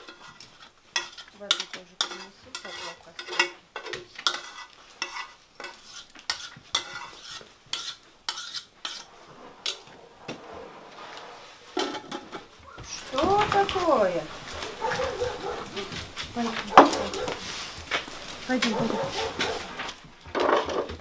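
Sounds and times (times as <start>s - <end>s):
spoon scraping metal pot: 0.0s - 19.8s.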